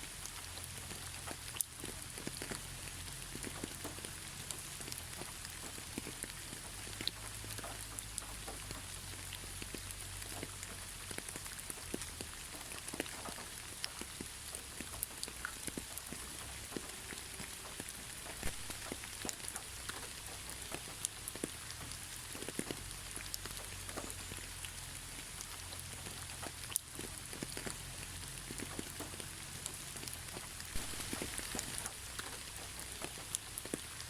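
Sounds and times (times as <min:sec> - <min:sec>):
raindrops pattering on a surface: 0:00.0 - 0:34.0
rain hissing: 0:00.1 - 0:34.0.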